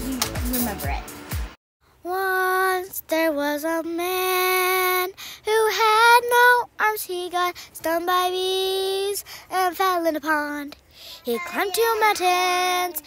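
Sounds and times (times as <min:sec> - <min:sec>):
girl singing: 0:02.0 - 0:13.0.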